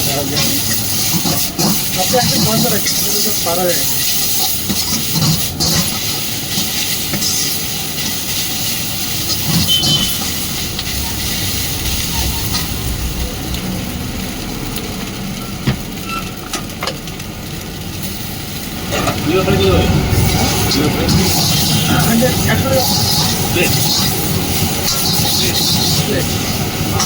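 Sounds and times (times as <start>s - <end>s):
gas burner roaring: 0.0s - 27.0s
rice sizzling in a wok: 0.0s - 27.0s.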